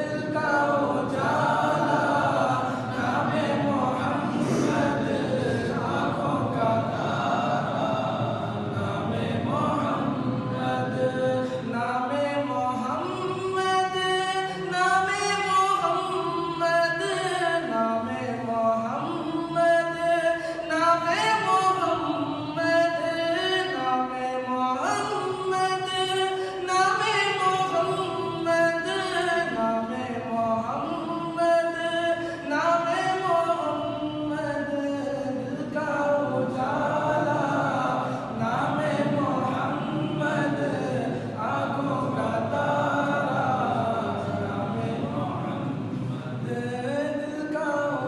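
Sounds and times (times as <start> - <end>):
person singing devotional poem: 0.0 - 48.0.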